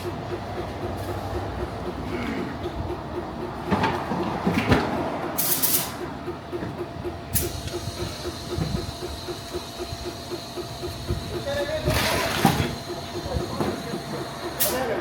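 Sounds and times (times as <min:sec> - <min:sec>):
mechanical background noise: 0:00.0 - 0:15.0.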